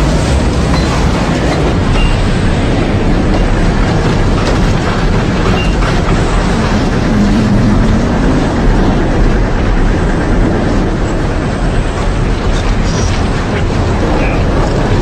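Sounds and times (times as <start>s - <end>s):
storm wind roaring: 0.0s - 15.0s.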